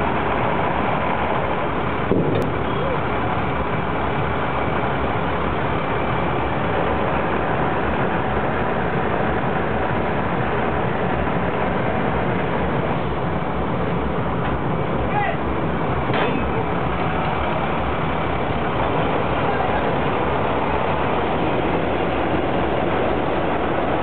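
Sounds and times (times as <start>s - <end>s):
large engine rumbling: 0.0s - 24.0s.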